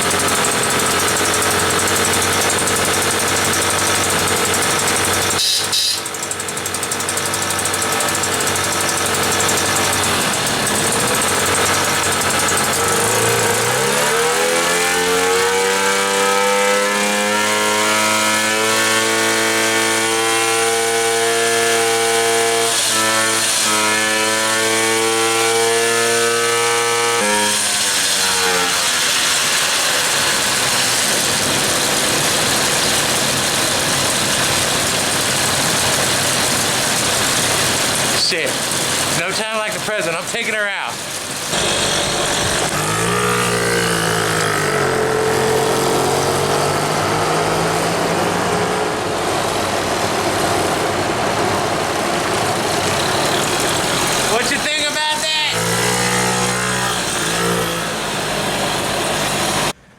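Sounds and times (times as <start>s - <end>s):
moped engine revving: 0.0s - 59.8s.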